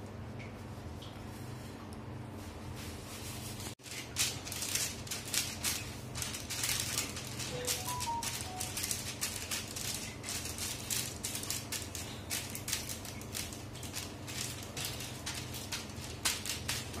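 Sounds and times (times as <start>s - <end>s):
paper rustling and crinkling: 2.4s - 17.0s.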